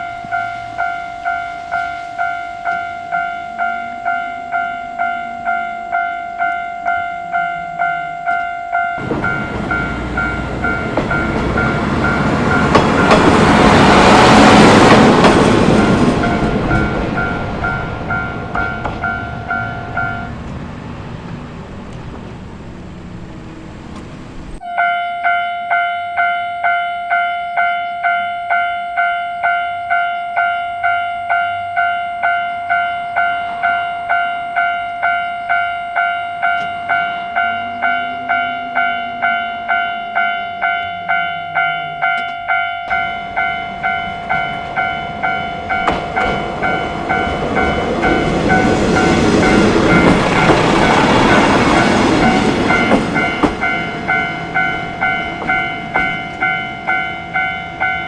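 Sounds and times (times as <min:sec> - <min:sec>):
train running noise: 0:00.0 - 0:04.2, 0:07.6 - 0:24.7, 0:32.2 - 0:58.0
level crossing bell ringing: 0:00.0 - 0:20.4, 0:24.6 - 0:58.0.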